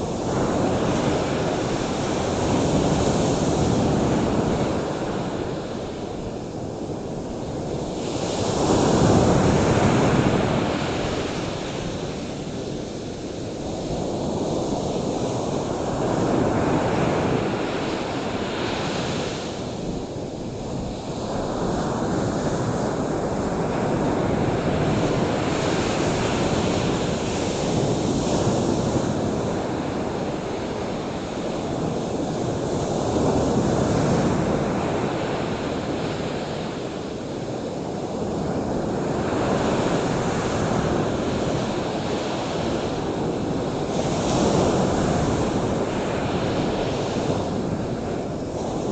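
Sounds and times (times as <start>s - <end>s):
ocean surf washing in: 0.0s - 48.9s
wind: 0.0s - 48.9s.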